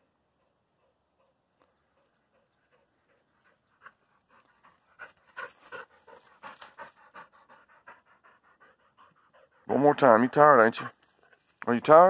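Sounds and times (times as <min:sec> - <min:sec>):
dog panting: 0:00.3 - 0:11.6.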